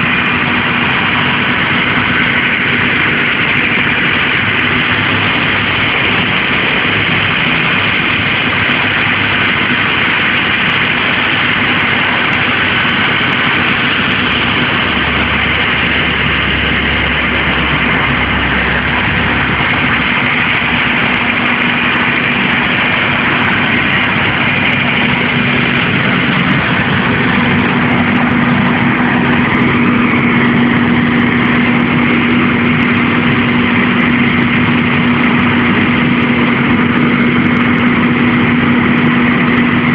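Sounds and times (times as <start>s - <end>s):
diesel engine running: 0.0s - 39.9s
steady hum: 0.0s - 39.9s.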